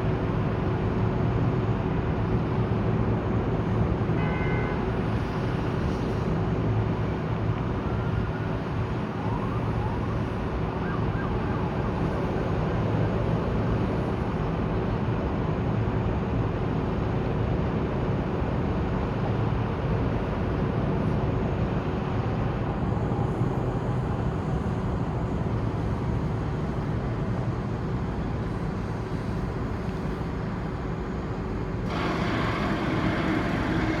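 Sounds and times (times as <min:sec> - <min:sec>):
city traffic noise: 0:00.0 - 0:34.0.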